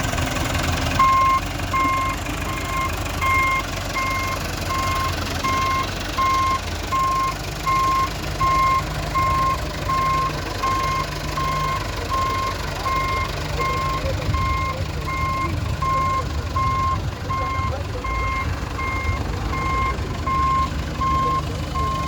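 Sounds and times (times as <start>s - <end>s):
diesel engine running: 0.0s - 22.0s
reversing alarm beeping: 1.0s - 22.0s.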